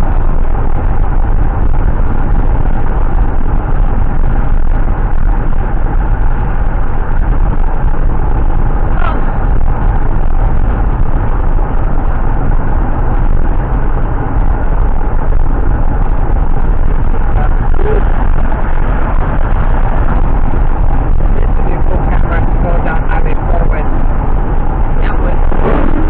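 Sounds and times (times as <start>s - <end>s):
car road noise: 0.0s - 26.0s.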